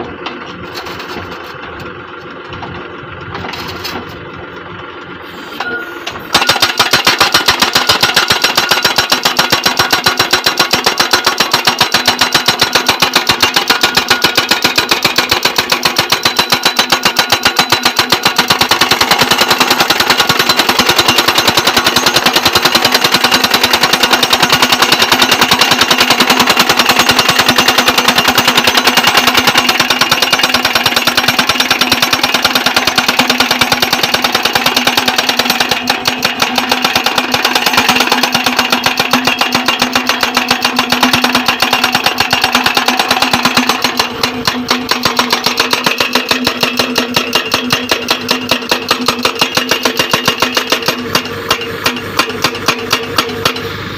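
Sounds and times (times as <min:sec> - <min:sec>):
machine engine running: 0:00.0 - 0:53.9
machine hammering steel posts: 0:05.6 - 0:53.8.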